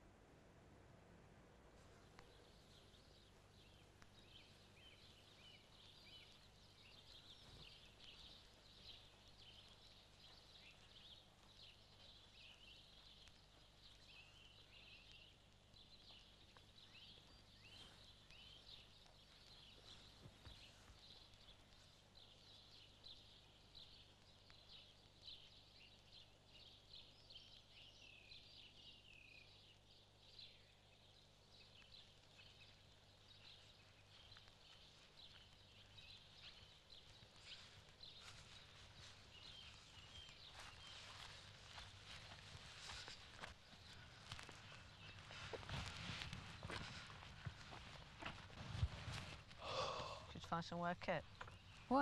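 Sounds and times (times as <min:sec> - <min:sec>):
small birds chirping: 0:01.5 - 0:52.0.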